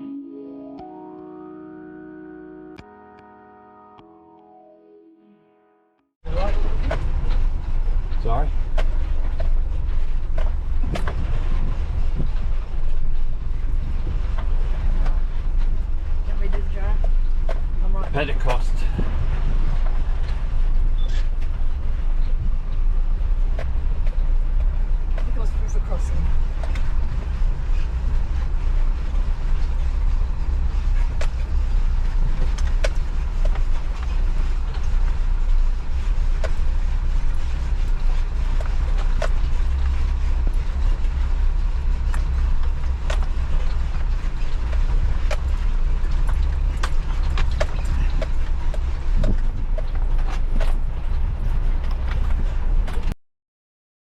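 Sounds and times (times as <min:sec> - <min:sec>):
vehicle rumble: 0:06.2 - 0:53.2.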